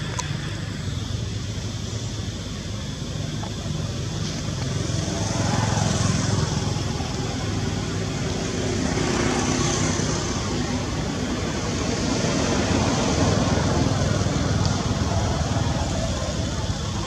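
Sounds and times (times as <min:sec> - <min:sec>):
constant hiss: 0:00.0 - 0:17.0
traffic rumble: 0:00.0 - 0:17.0.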